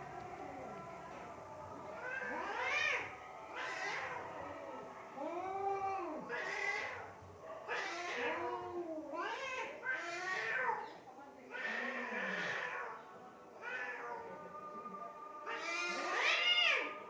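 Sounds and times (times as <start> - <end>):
cats yowling in a fight: 0.4 - 4.5, 5.1 - 14.6, 15.2 - 17.0.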